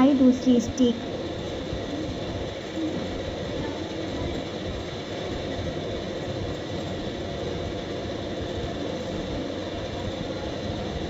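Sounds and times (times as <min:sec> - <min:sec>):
steady rushing background noise: 0:00.0 - 0:11.0.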